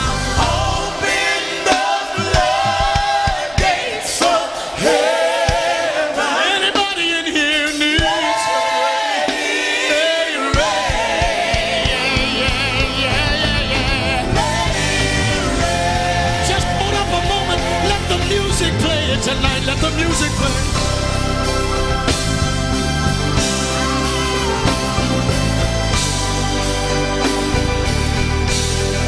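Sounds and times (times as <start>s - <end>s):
band accompaniment: 0.0s - 29.0s
gospel choir and congregation singing: 0.0s - 29.0s.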